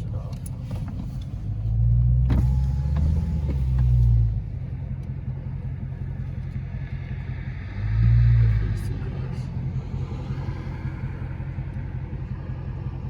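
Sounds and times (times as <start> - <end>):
low car exhaust rumble: 0.0 - 13.0.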